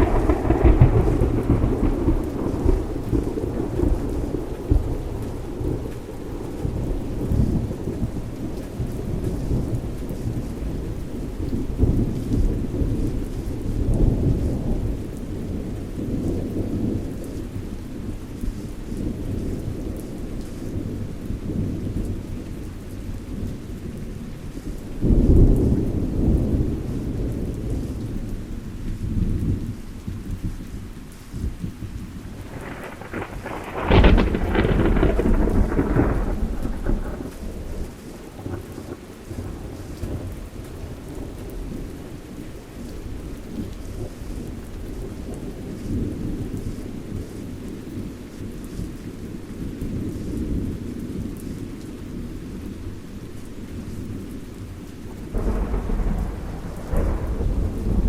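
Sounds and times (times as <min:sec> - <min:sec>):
rumbling thunder: 0:00.0 - 0:22.6, 0:25.0 - 0:30.6, 0:31.4 - 0:52.7, 0:54.1 - 0:58.0
steady rain: 0:00.0 - 0:58.0.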